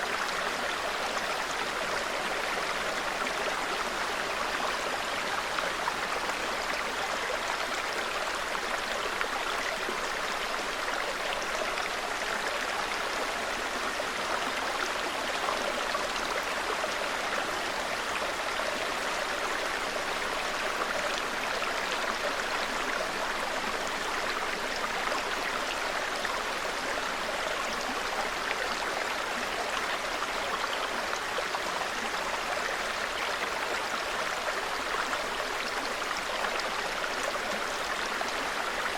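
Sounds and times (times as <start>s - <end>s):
brook babbling: 0.0s - 38.9s.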